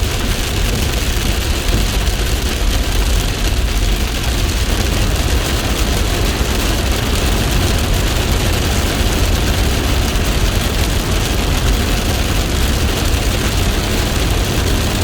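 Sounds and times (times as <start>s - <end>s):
deep low rumble: 0.0s - 13.6s
heavy rain falling: 0.0s - 15.0s.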